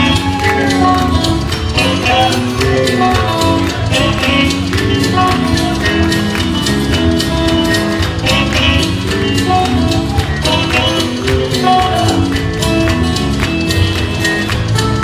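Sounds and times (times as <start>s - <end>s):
drums: 0.0s - 15.0s
electric guitar: 0.0s - 15.0s
live rock band instrumental: 0.0s - 15.0s.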